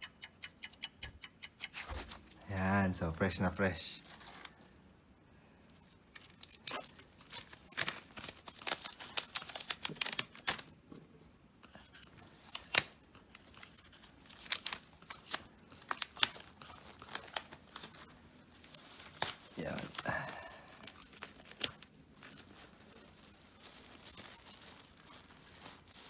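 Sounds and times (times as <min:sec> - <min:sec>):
plastic wrapping crinkling: 0:01.9 - 0:05.0, 0:05.7 - 0:10.8, 0:11.6 - 0:26.0.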